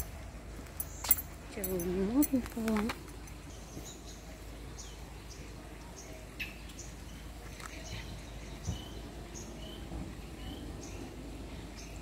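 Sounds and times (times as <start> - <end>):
birds chirping: 0.0 - 12.0
low steady background noise: 0.0 - 12.0.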